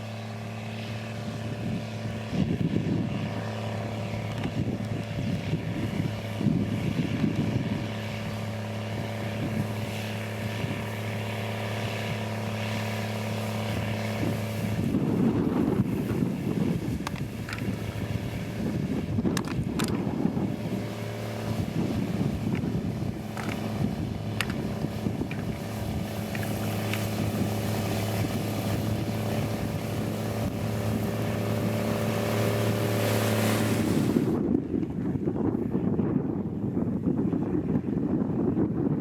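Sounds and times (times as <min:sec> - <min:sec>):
diesel engine humming: 0:00.0 - 0:34.4.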